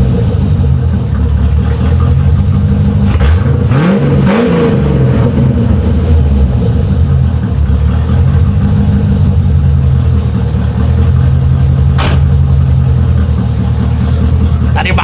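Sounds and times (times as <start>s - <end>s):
car exhaust idling and revving: 0.0s - 15.0s.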